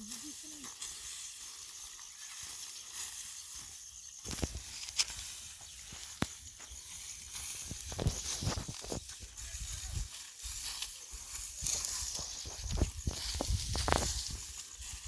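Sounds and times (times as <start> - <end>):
high-pitched outdoor hiss: 0.0 - 15.0.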